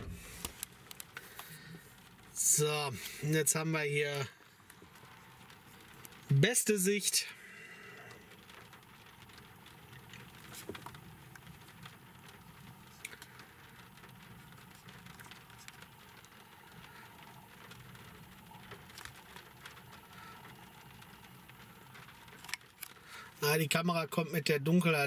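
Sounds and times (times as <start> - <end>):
low hum inside car: 0.0 - 22.8
raindrops hitting windscreen: 0.0 - 25.0.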